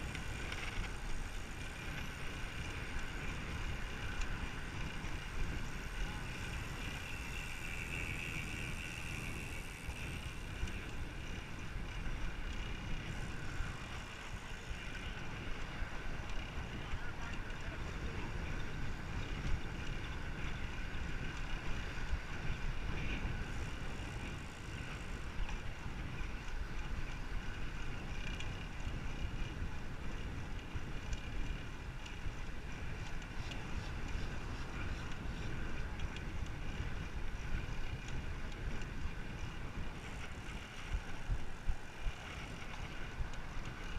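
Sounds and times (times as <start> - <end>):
rolling road noise: 0.0 - 43.9
wind buffeting microphone: 0.0 - 43.9.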